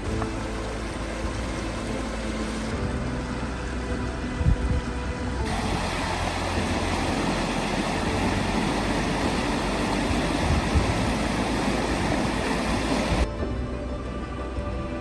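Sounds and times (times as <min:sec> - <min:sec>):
river water rushing: 0:00.0 - 0:13.4.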